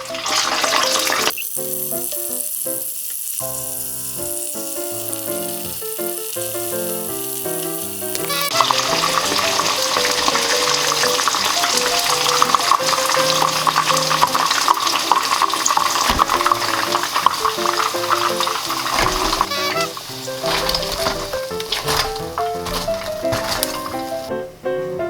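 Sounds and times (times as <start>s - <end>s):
chicken frying in hot oil: 0.0s - 24.4s.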